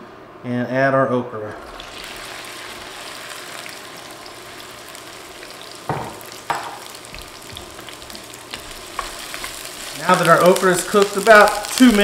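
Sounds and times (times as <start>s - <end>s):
okra sizzling in oil: 1.6s - 12.0s.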